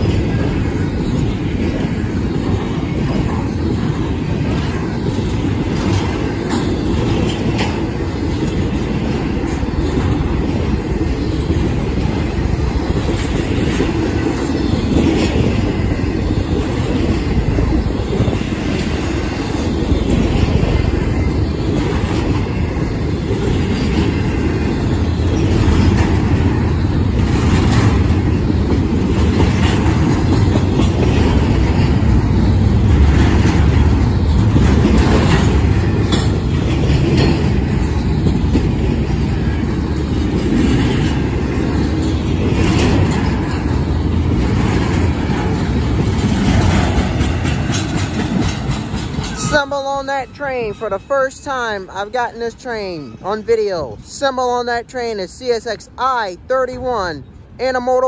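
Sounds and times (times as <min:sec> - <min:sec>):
wheels clicking over rail joints: 0:00.0 - 0:53.2
train wheels rumbling on rails: 0:00.0 - 0:58.0.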